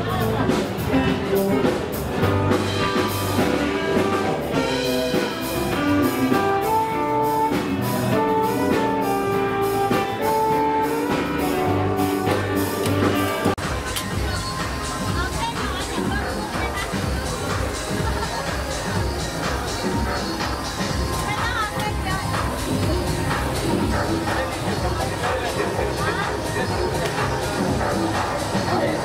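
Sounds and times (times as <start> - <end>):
instrumental background music: 0.0 - 29.0
steady drum beat: 0.0 - 29.0.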